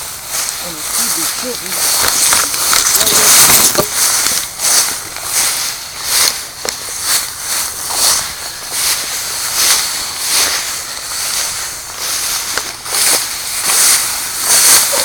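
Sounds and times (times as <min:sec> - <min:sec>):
footsteps through dry weeds: 0:00.0 - 0:15.0.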